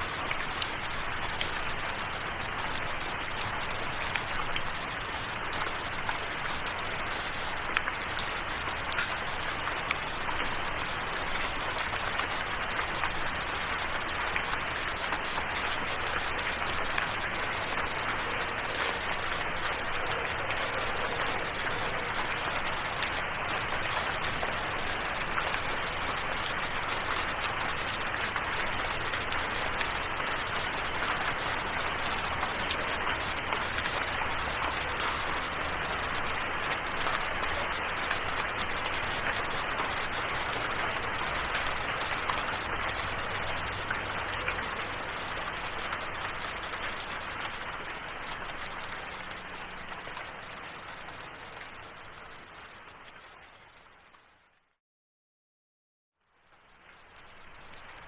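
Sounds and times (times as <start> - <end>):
steady rain falling: 0.0 - 54.6, 56.2 - 58.0.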